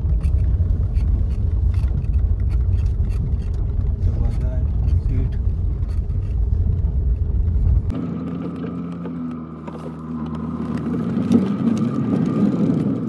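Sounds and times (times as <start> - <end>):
car engine hum: 0.0 - 13.0
heavy low rumble: 0.0 - 13.0.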